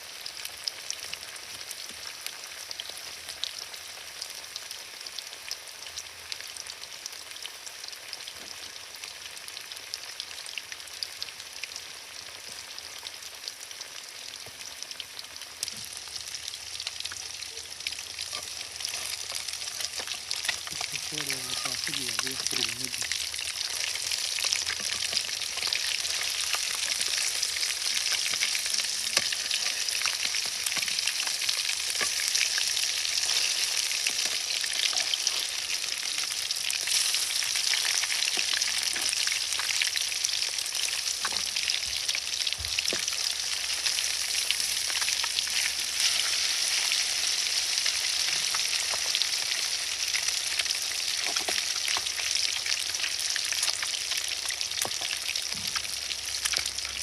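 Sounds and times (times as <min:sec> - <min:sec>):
fish frying in hot oil: 0:00.0 - 0:57.0.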